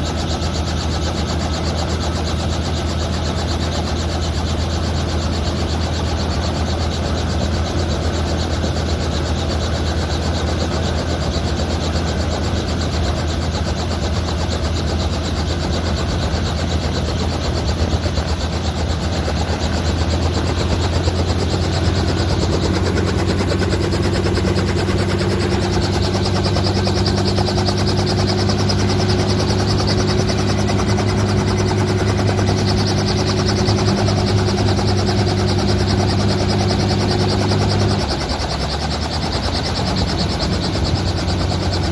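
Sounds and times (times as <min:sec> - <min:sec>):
helicopter blade chop: 0:00.0 - 0:41.9.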